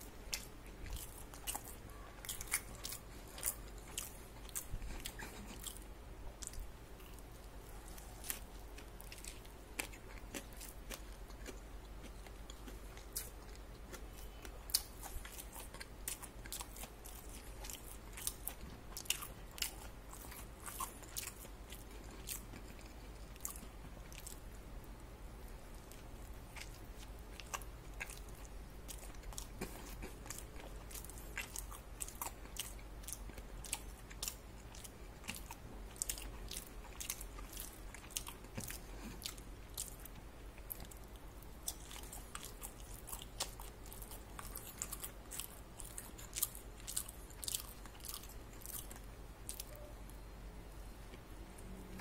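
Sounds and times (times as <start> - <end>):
person chewing crispy fries: 0.0 - 49.7.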